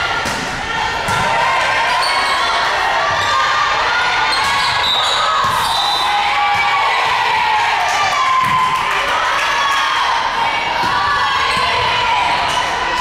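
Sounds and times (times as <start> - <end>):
crowd shouting and cheering: 0.0 - 13.0.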